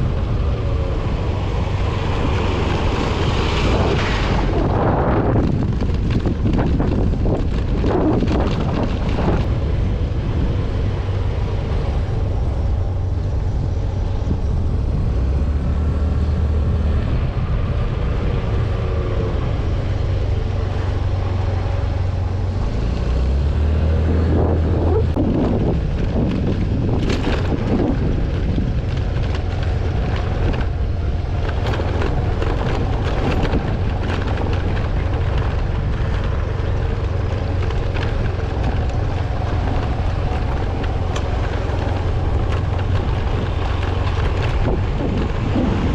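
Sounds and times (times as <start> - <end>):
vehicle engine under load: 0.0 - 45.9
wind buffeting microphone: 0.0 - 45.9.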